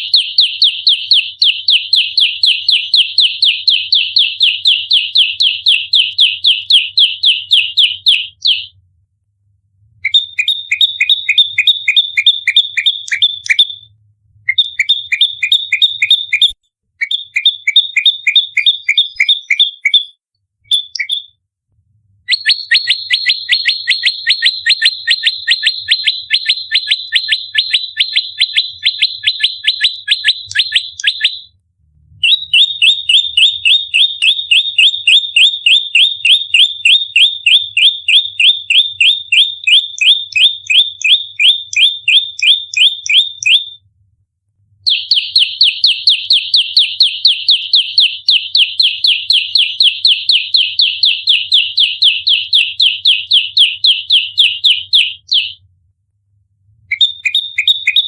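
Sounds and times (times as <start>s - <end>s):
bird sharp high chirps: 0.0s - 8.8s, 10.0s - 13.9s, 14.5s - 21.4s, 22.3s - 31.5s, 32.2s - 43.8s, 44.9s - 55.6s, 56.9s - 58.0s.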